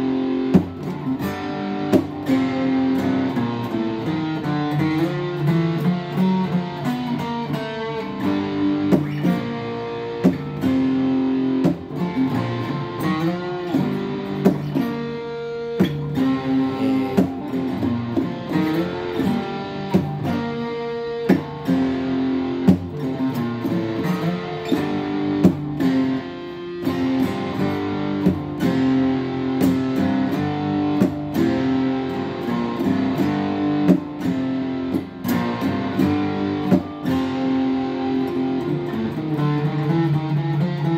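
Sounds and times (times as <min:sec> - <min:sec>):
acoustic guitar playing: 0:00.0 - 0:40.9.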